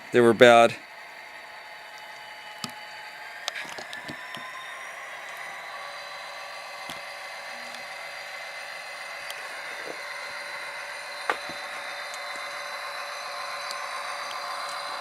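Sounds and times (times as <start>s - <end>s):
model locomotive motor whine: 0.0s - 15.0s.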